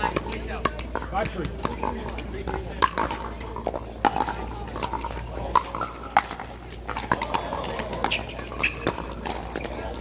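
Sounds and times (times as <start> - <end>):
paddles striking plastic ball: 0.0 - 10.0.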